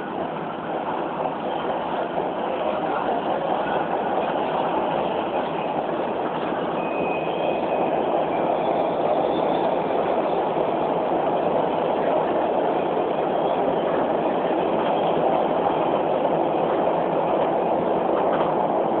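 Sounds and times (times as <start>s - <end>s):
faint high whine: 0.0s - 18.1s
train wheels rumbling: 0.0s - 19.0s.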